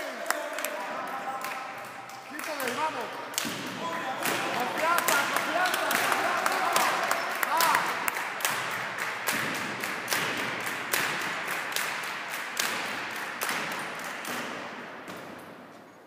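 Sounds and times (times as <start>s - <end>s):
spectators clapping in rhythm: 0.0s - 14.9s.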